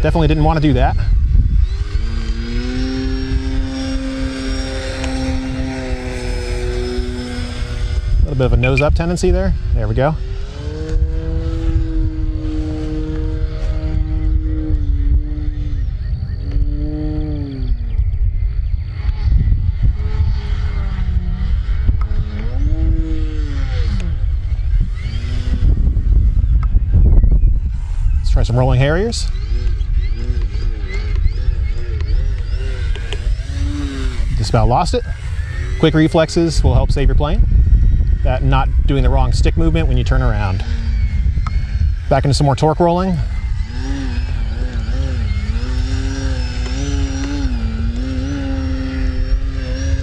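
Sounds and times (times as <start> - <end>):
low wind rumble: 0.0 - 50.0
model plane propeller droning: 0.0 - 50.0.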